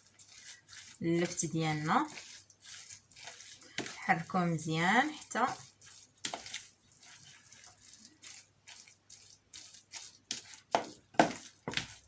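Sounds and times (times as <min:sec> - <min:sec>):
spoon stirring in a bowl: 0:00.0 - 0:12.0.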